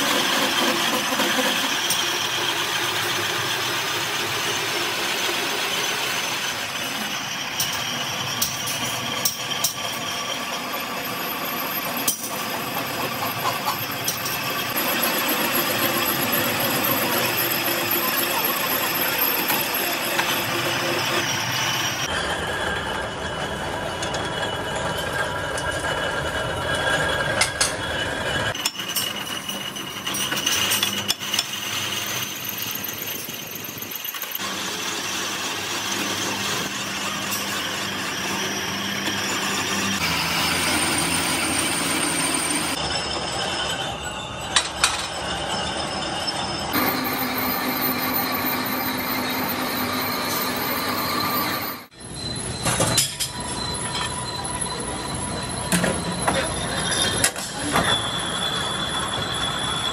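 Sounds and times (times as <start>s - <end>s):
cutting tool squealing on metal: 0.0s - 22.4s, 26.7s - 59.9s
metal lathe running: 0.0s - 52.5s.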